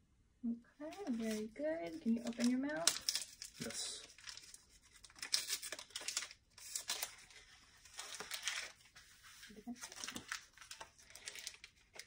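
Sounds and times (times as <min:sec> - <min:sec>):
wrapper crinkling and tearing: 0:00.9 - 0:12.0.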